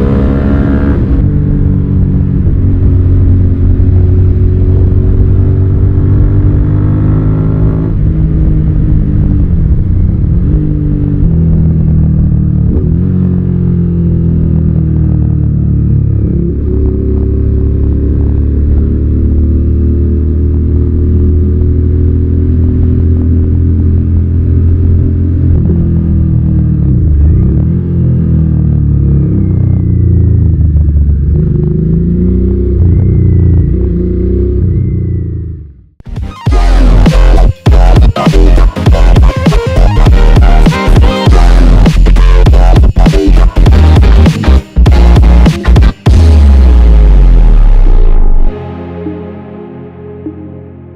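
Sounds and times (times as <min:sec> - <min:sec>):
motorcycle engine revving through gears: 0:00.0 - 0:48.5.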